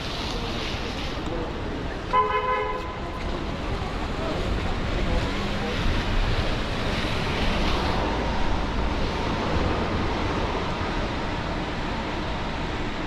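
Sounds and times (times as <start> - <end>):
rain: 0.0 - 2.2, 2.8 - 13.0
traffic on wet pavement: 0.0 - 13.0.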